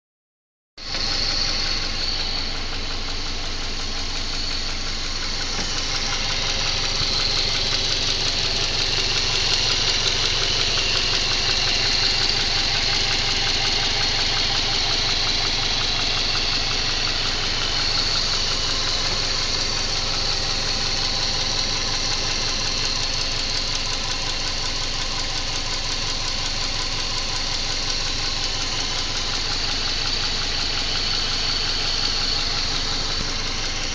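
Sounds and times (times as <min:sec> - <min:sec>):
car engine idling with knock: 0:00.8 - 0:33.9.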